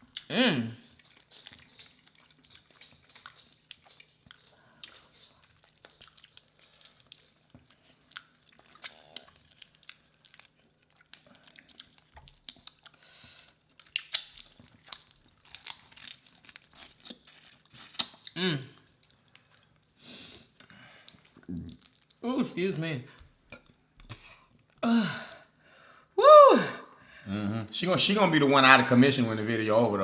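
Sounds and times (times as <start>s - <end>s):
faint chewing: 0.0s - 22.3s, 23.0s - 25.7s.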